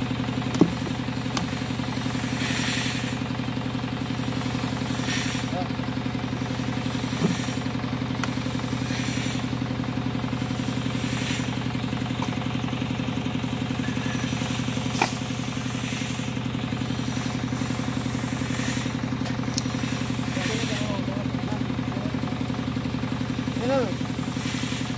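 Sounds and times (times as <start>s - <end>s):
chainsaw idling: 0.0s - 24.9s.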